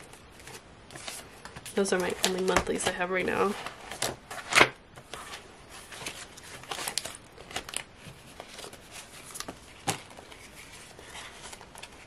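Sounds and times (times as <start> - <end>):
paper and plastic rustling: 0.0 - 12.0.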